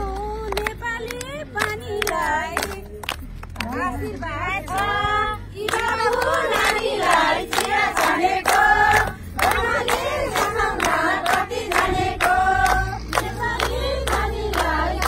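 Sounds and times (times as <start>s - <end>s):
women singing in chorus: 0.0s - 3.0s, 3.6s - 15.0s
hands clapping rhythmically: 0.0s - 3.9s, 4.6s - 15.0s.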